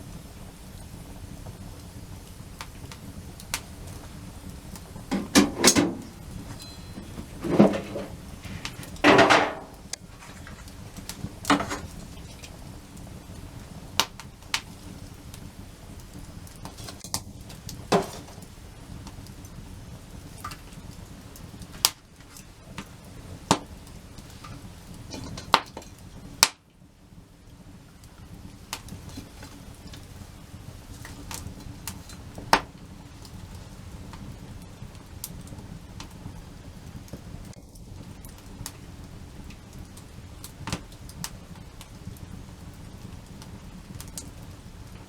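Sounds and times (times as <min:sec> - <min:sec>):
campfire hissing and crackling: 0:00.0 - 0:45.0.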